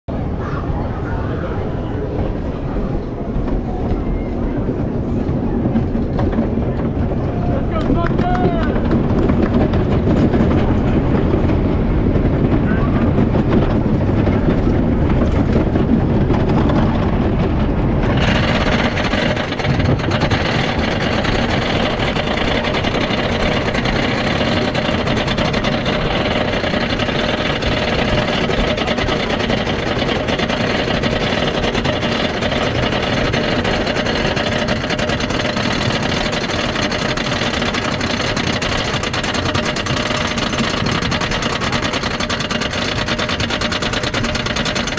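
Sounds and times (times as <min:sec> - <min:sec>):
roller coaster clattering on wooden track: 0:00.2 - 0:44.9.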